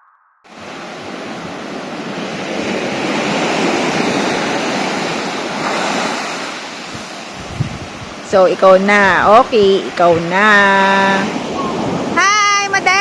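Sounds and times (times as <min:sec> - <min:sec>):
sea surf rushing: 0:00.5 - 0:13.0
wind buffeting the microphone: 0:00.6 - 0:13.0.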